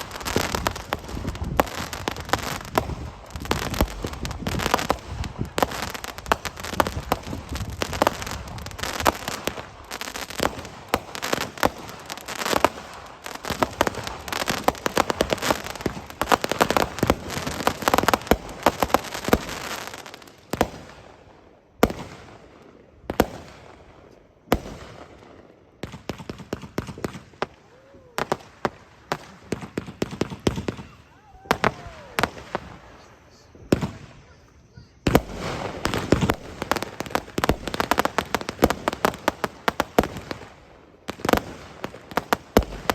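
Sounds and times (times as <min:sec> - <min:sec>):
firework bangs and crackling: 0:00.0 - 0:42.9.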